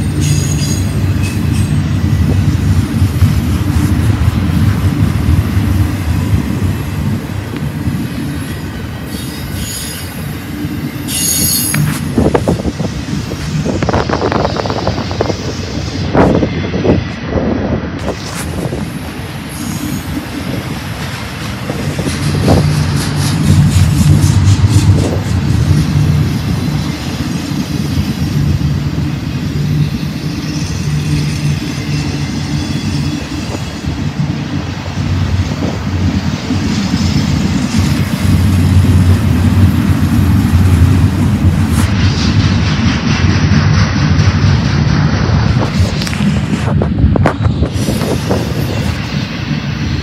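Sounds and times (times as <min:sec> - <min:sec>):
freight train wheels rumbling on rail: 0:00.0 - 0:50.0
rapid clicks of train wheels: 0:00.0 - 0:50.0.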